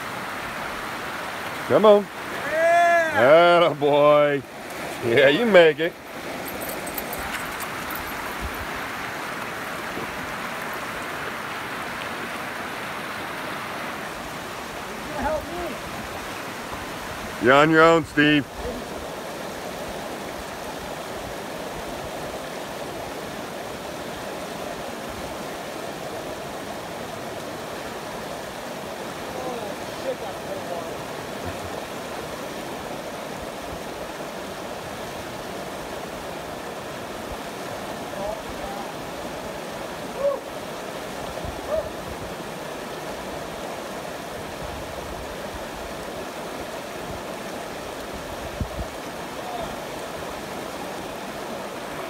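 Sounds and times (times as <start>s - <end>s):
creek rushing over rocks: 0.0s - 52.0s.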